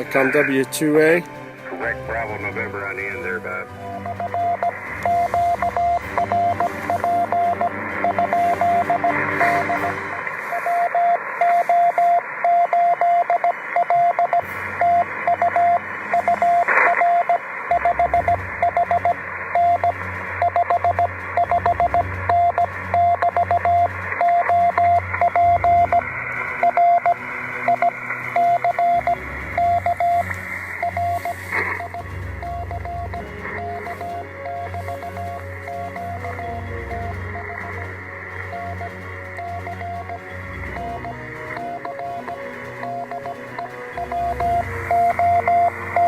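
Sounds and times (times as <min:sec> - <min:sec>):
radio receiver hiss: 0:00.0 - 0:46.0
morse code tone: 0:01.8 - 0:46.0.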